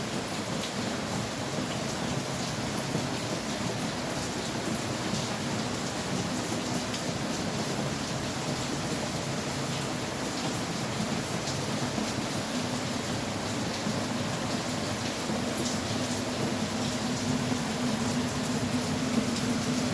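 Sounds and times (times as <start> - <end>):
rain falling: 0.0 - 19.9
ticks of raindrops: 0.1 - 19.9.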